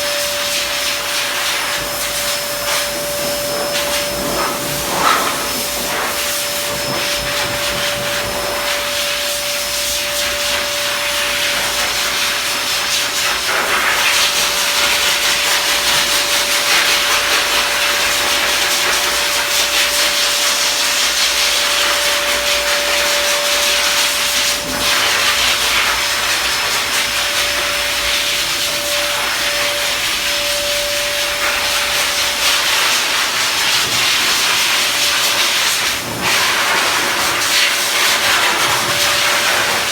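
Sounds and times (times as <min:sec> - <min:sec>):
dryer motor whine: 0:00.0 - 0:39.9.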